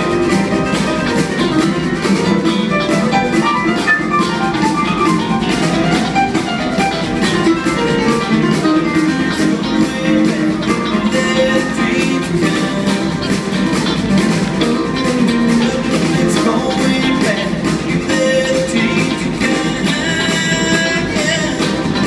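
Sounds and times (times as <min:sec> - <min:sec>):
acoustic guitar strumming: 0:00.0 - 0:22.0
live band playing: 0:00.0 - 0:22.0.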